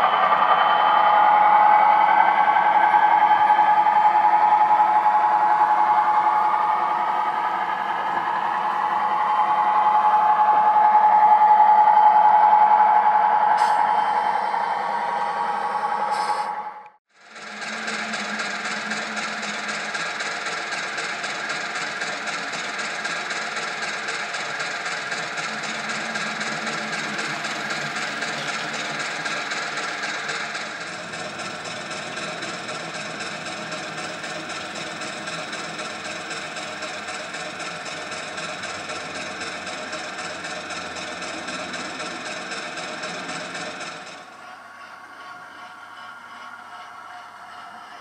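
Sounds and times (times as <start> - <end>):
model train diesel engine sound: 0.0 - 48.0.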